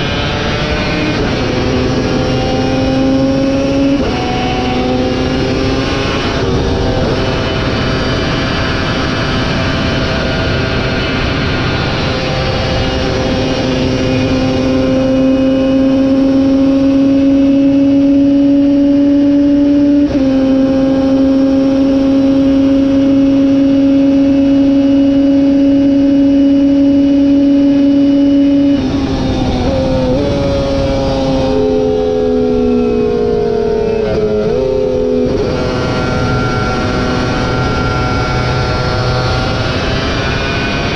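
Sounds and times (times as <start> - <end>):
motorcycle engine at full throttle: 0.0 - 40.9.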